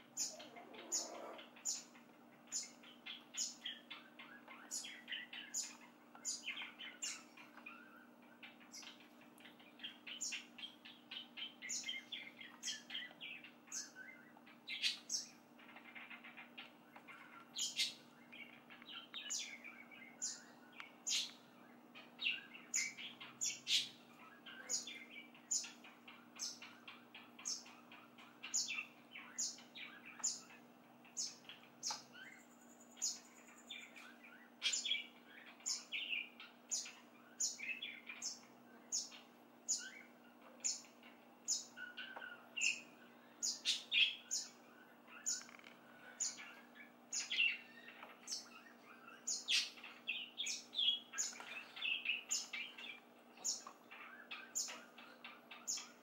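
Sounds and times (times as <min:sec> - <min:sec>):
bird chirping: 0:00.0 - 0:56.0
faint steady hum: 0:00.0 - 0:56.0.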